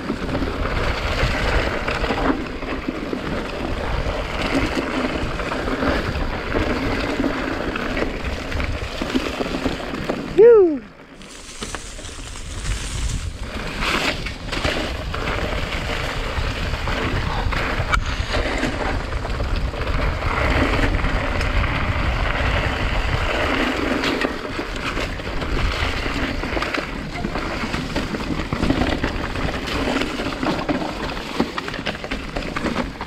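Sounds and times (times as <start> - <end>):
bike rolling over dirt: 0.0 - 33.0
wind rush on microphone: 0.0 - 33.0.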